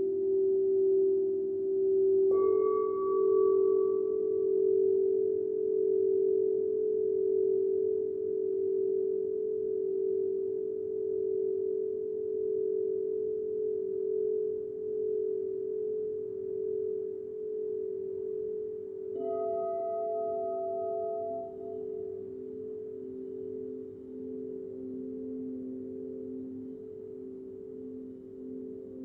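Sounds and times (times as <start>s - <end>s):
higher-pitched singing bowl: 0.0s - 29.0s
singing bowls humming: 0.0s - 29.0s.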